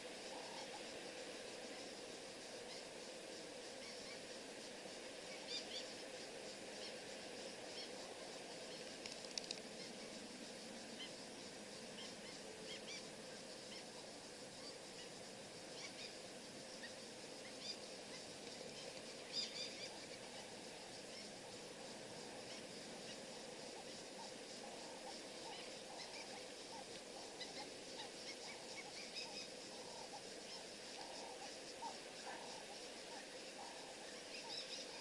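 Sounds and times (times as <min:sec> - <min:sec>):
steady background hiss: 0:00.0 - 0:35.0.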